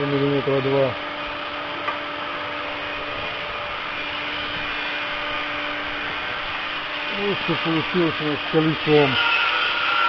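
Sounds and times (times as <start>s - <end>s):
workshop machinery whirring: 0.0s - 10.0s.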